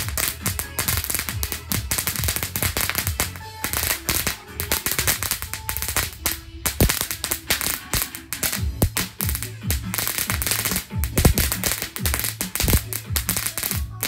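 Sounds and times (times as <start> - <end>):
fireworks crackling and popping: 0.0 - 14.0
music playing: 0.0 - 14.0.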